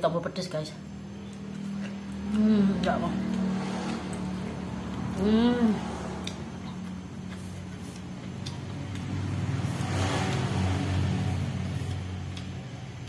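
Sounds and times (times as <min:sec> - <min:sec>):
steady low hum: 0:00.0 - 0:13.0
vehicle engine passing: 0:00.8 - 0:13.0.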